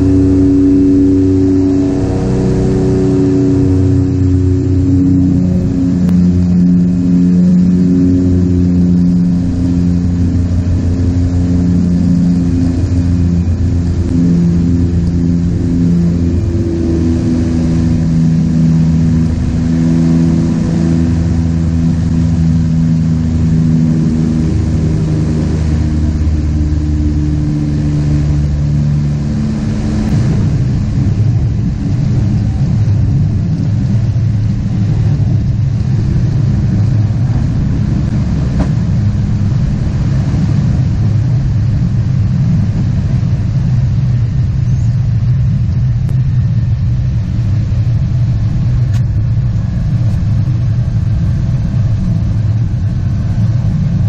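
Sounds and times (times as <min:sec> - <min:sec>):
turboprop engines and propellers: 0:00.0 - 0:54.0.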